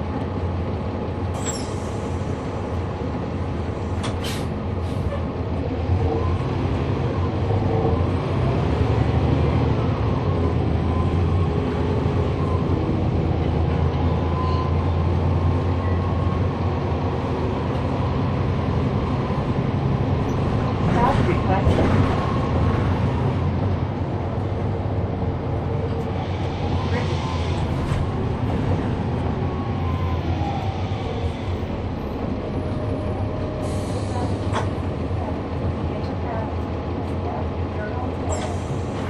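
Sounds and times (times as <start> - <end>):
bus diesel engine: 0.0 - 39.0.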